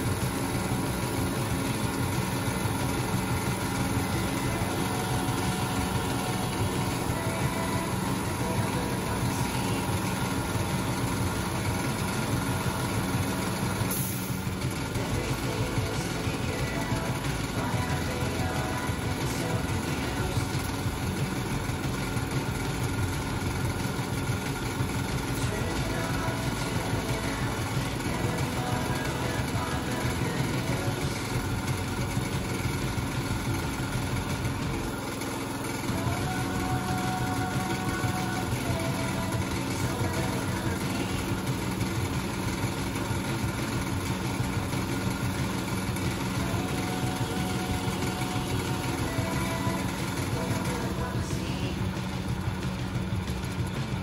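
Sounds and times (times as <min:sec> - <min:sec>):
piston machine throbbing: 0:00.0 - 0:54.0
small motor running: 0:00.0 - 0:54.0.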